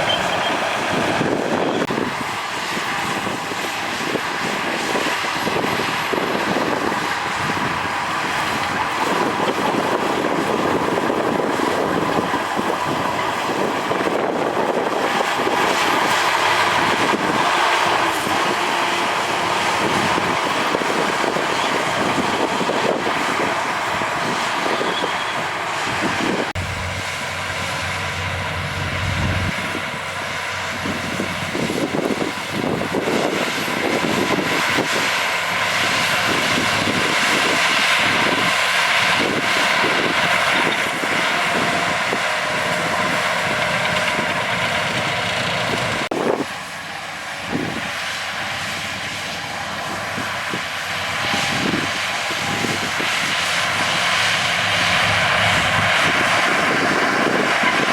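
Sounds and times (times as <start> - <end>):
diesel machinery engine drone: 0.0 - 57.9.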